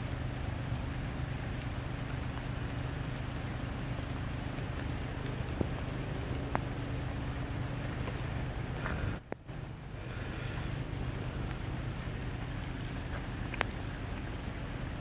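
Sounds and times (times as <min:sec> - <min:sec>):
heavy rain pouring: 0:00.0 - 0:15.0
low steady hum: 0:00.0 - 0:15.0
sharp drip ticks: 0:00.0 - 0:15.0.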